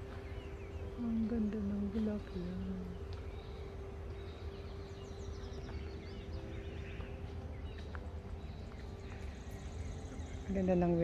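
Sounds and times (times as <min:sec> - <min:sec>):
low background rumble: 0:00.0 - 0:11.0
songbirds chirping and trilling: 0:00.0 - 0:11.0.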